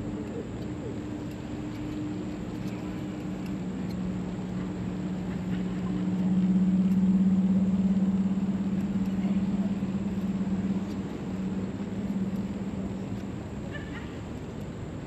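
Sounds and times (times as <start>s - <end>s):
chairlift machinery humming: 0.0s - 15.0s.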